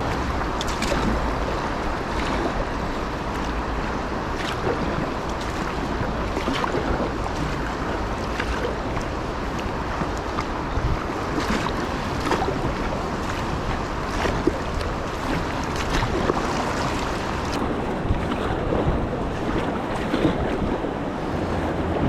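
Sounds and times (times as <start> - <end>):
water splashing around kayak: 0.0 - 22.0
wind buffeting microphone: 0.0 - 22.0.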